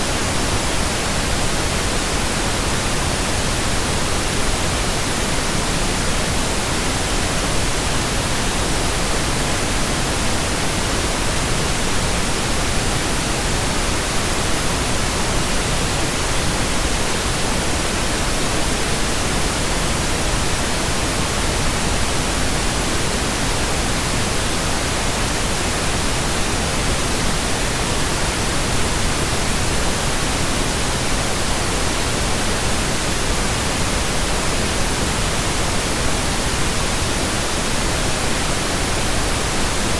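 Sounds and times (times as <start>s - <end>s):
pink noise: 0.0s - 39.9s.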